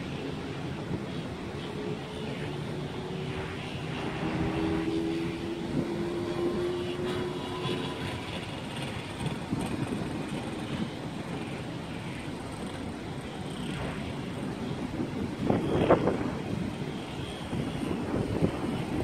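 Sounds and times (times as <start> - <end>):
distant city traffic: 0.0 - 19.0
low engine drone: 0.0 - 19.0.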